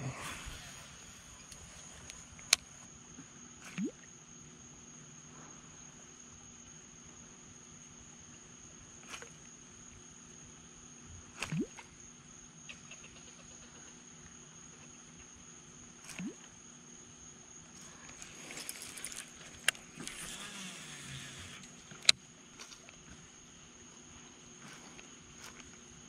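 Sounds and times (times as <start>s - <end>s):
crickets droning: 0.0s - 26.0s.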